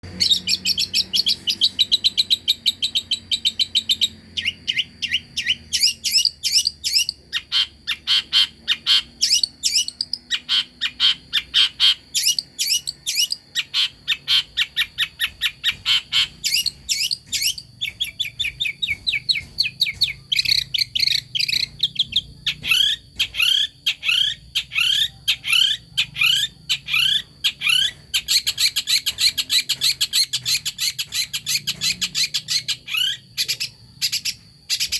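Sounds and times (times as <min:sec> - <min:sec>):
bird chattering trills: 0:00.1 - 0:34.9.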